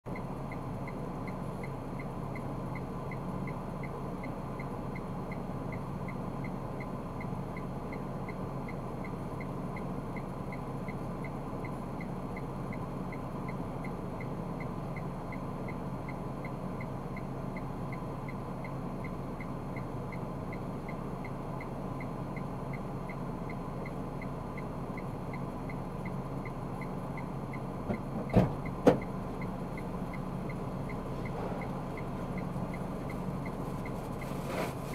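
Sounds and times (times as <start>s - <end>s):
car interior running noise: 0.1s - 34.9s.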